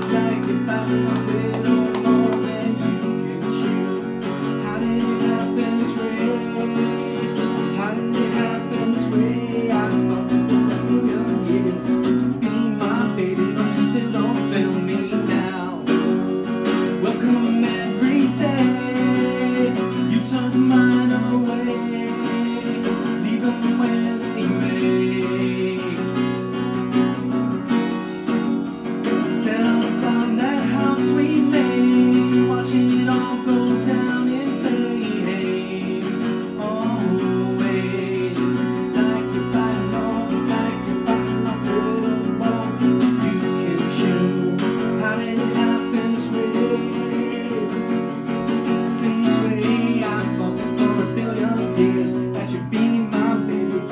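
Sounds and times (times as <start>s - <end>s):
man singing: 0.0s - 27.4s, 29.0s - 53.9s
acoustic guitar strumming: 0.0s - 53.9s.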